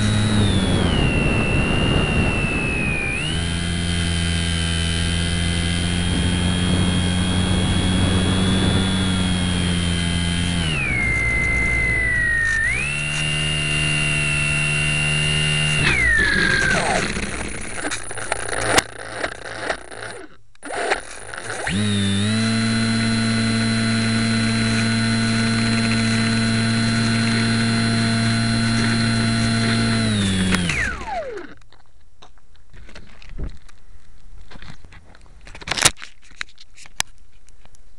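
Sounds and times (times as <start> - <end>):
electric motor and propeller whine: 0.0 - 31.6.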